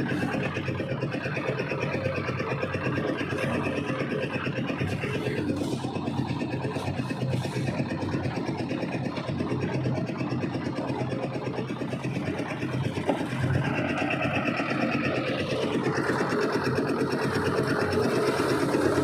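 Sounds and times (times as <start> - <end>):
engine-driven machine chattering: 0.0 - 19.0.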